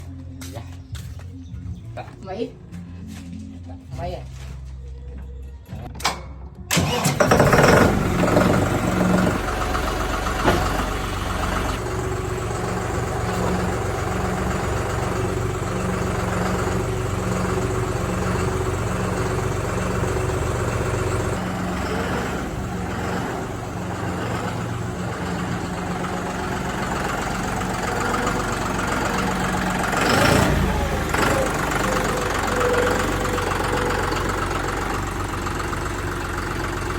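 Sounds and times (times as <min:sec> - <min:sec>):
tractor engine: 0:05.6 - 0:36.9.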